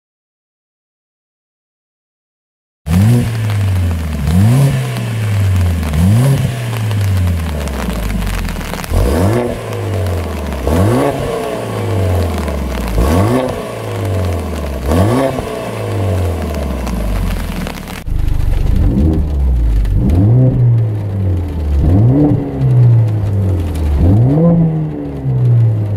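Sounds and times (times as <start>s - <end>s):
car engine revving: 2.9s - 25.9s.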